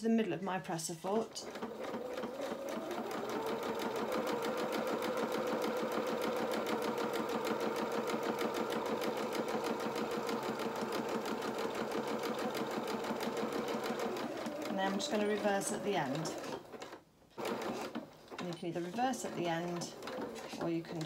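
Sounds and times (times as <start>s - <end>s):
electric sewing machine running: 1.2s - 21.0s.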